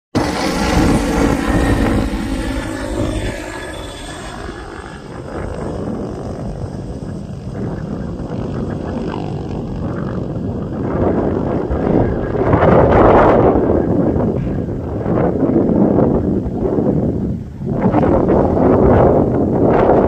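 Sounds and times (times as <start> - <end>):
helicopter flying overhead: 0.2 - 20.0
wind rumbling on microphone: 0.2 - 20.0.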